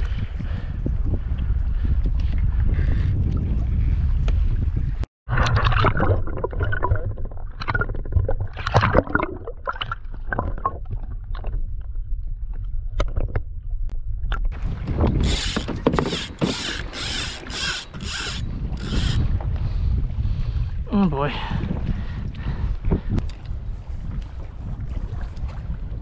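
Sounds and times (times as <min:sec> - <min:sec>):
low rumble of water and wind: 0:00.0 - 0:26.0
water sloshing and gurgling: 0:00.0 - 0:26.0.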